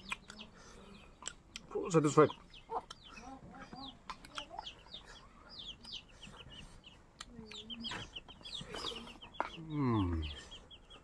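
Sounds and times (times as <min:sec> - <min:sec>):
chicken clucking: 0:00.0 - 0:11.0
chickens chirping: 0:00.0 - 0:11.0.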